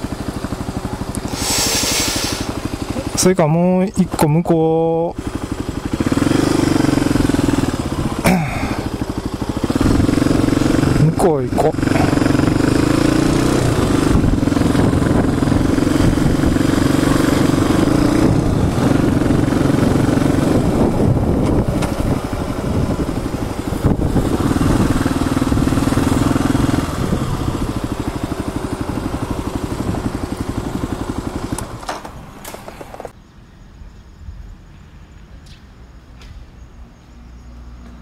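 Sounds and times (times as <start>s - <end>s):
motorcycle engine running: 0.0s - 33.2s.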